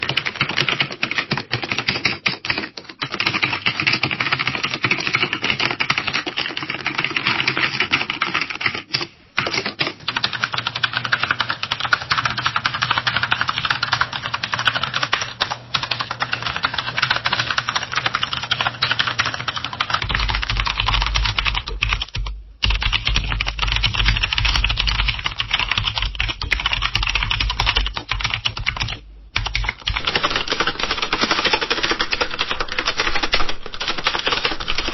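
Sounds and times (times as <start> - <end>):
fast typing on a keyboard: 0.0 - 34.9.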